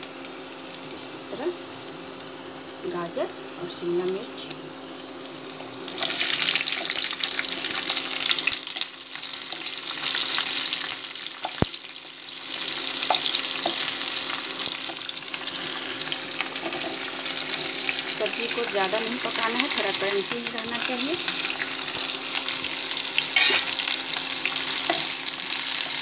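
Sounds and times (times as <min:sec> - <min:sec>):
onions sizzling in oil: 0:00.0 - 0:26.0.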